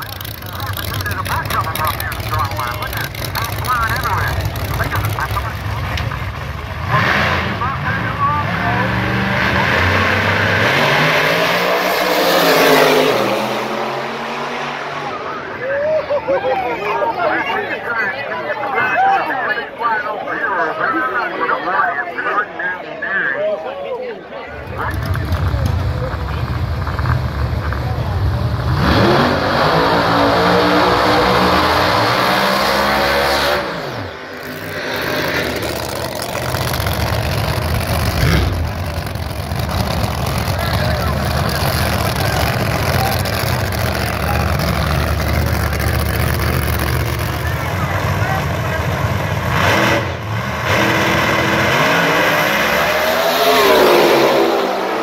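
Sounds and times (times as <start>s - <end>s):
rough engine rumble: 0.0s - 15.7s, 24.5s - 32.3s, 33.7s - 55.0s
drag race cars at full throttle: 0.0s - 55.0s.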